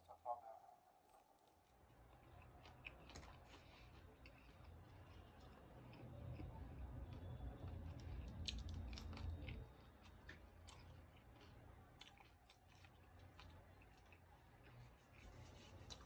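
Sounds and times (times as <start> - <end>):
chewing food: 1.1 - 16.0.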